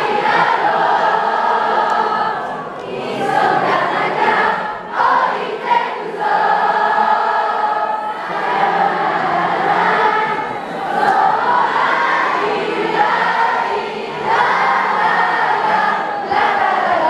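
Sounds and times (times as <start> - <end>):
crowd chanting in unison: 0.0 - 17.0.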